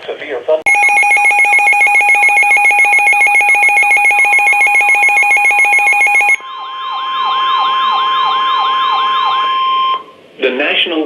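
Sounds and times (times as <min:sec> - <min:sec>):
pulsing alarm beep: 0:00.7 - 0:10.0
downward-sweeping siren chirps: 0:00.7 - 0:10.1.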